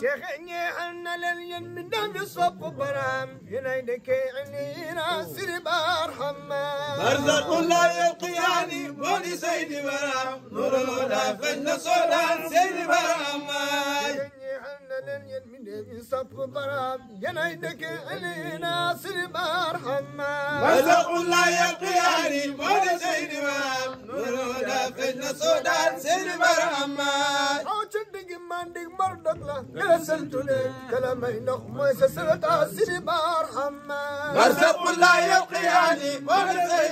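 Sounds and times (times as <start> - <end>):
man chanting: 0.0 - 36.9.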